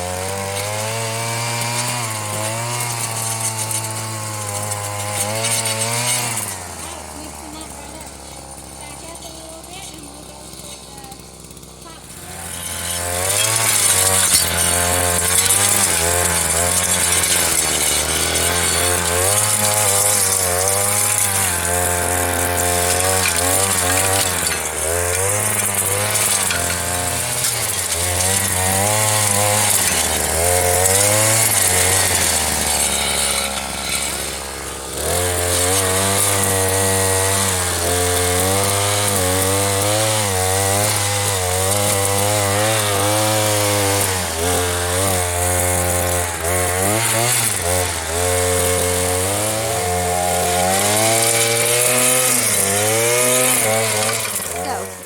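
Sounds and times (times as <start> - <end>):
tiller engine running: 0.0 - 55.0.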